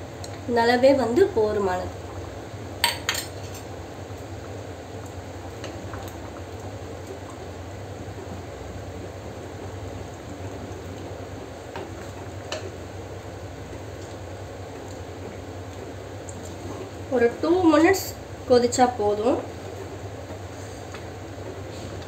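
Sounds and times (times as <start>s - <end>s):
curry bubbling in a pot: 0.1s - 22.0s.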